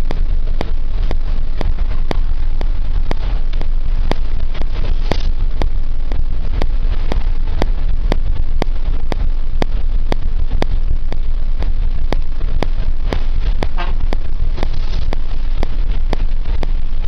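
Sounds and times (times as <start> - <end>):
sharp ticking: 0.0 - 17.0
wind and tyre noise: 0.0 - 17.0.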